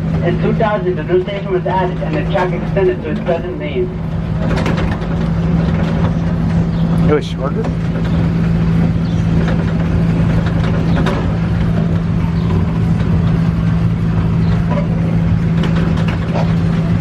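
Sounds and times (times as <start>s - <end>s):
rumble and clatter of ride: 0.0s - 17.0s
train engine hum: 0.0s - 17.0s.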